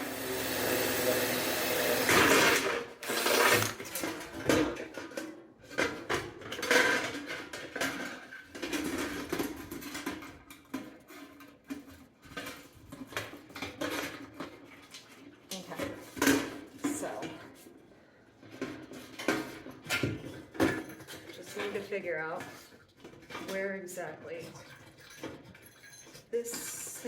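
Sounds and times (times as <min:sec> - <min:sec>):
metal clattering and scraping: 0:03.6 - 0:17.7, 0:18.4 - 0:27.0.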